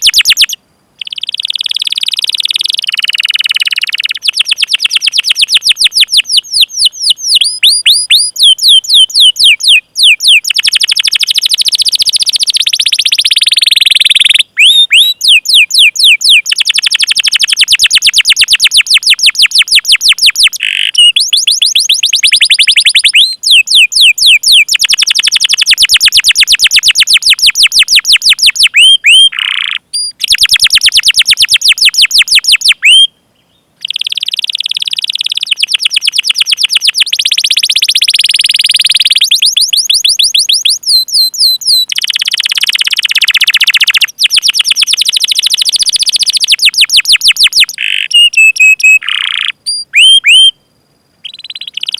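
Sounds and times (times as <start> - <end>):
canary singing rapid high chirps: 0.0 - 33.1, 33.8 - 50.6, 51.2 - 51.9.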